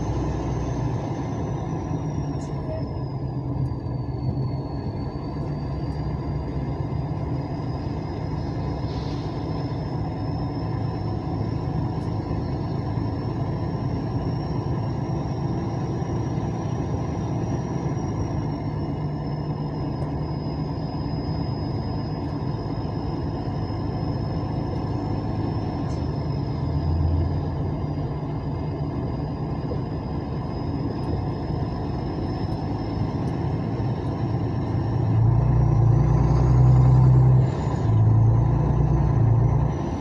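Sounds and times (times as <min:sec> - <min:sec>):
vehicle engine rumbling: 0:00.0 - 0:40.0.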